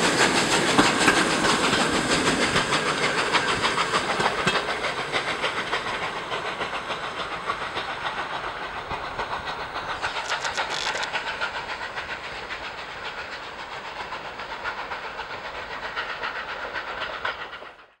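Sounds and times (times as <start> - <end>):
steam locomotive exhaust beats: 0.0 - 18.0.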